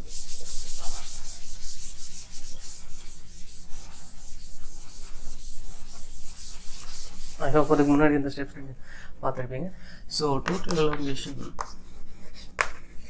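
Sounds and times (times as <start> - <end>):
duster rubbing chalkboard: 0.0 - 8.2, 10.4 - 13.0.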